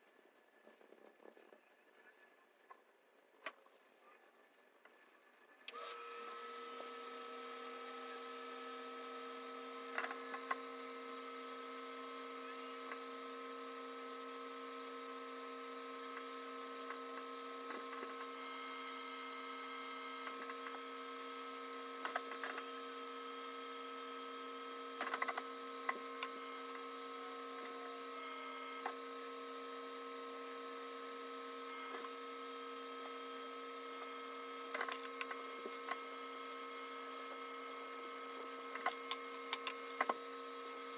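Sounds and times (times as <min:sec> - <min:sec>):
hum of held tones: 0:05.7 - 0:40.9.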